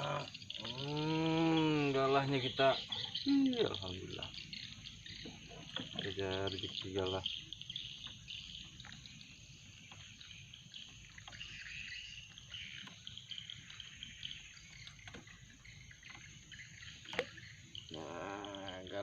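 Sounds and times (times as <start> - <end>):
faint ticks: 0.0 - 19.0
insects chirring: 0.0 - 19.0.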